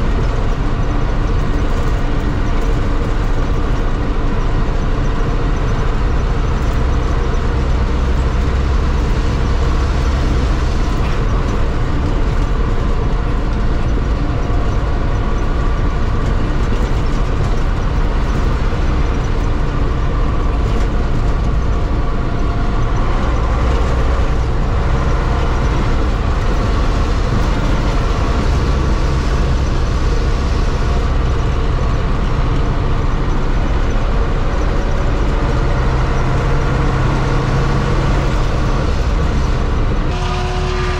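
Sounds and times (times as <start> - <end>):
truck diesel engine droning: 0.0 - 40.9.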